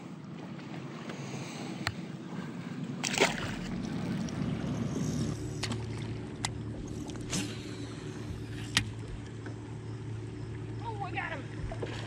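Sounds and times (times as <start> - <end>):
electric trolling motor humming: 1.8 - 12.0.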